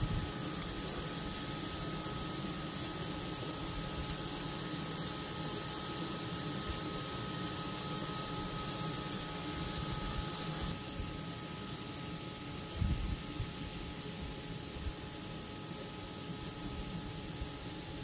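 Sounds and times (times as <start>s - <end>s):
machine hum: 0.0s - 14.8s.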